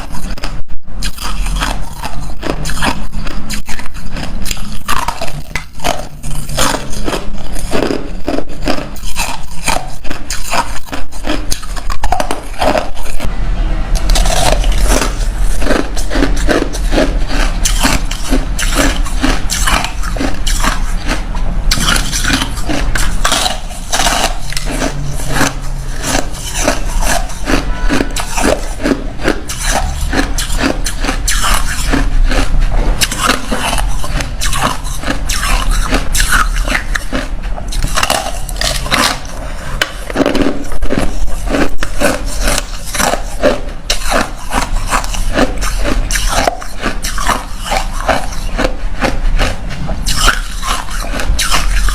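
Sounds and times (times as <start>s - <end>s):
ice crunching while chewed: 0.0s - 13.3s, 14.0s - 51.9s.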